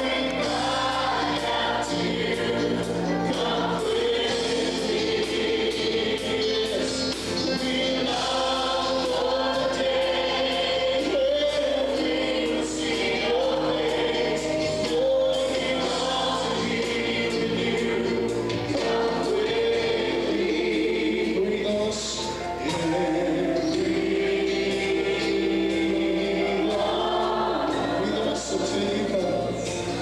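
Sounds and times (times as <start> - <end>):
congregation singing a worship song: 0.0 - 30.0.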